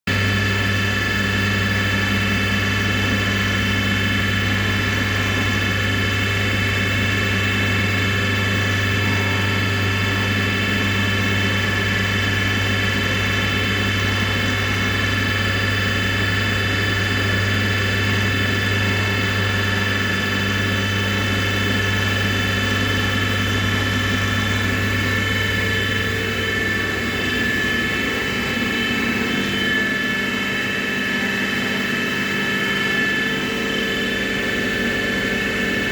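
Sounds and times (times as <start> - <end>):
milling machine whine: 0.1 - 35.9
low hum: 1.8 - 35.9.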